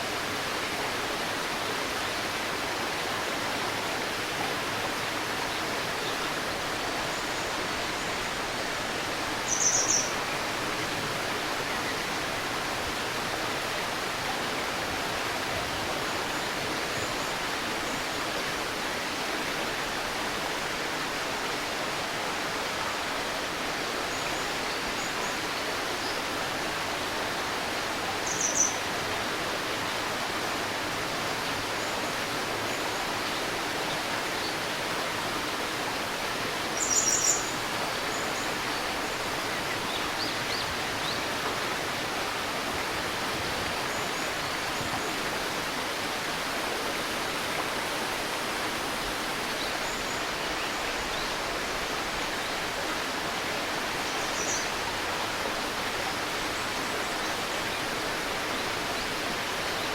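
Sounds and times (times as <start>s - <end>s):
shallow river burbling: 0.0s - 59.9s.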